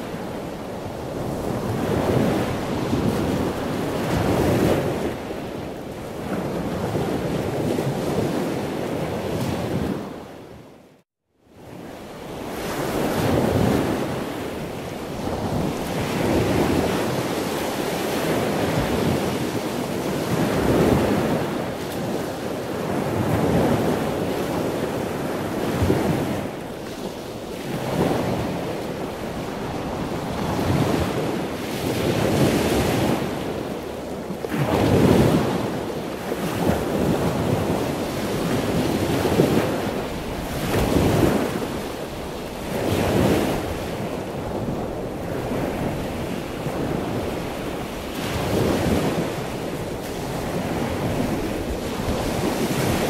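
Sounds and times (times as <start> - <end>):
choppy water washing around boat: 0.0 - 10.6, 11.6 - 53.0
wind buffeting microphone: 0.0 - 10.6, 11.6 - 53.0.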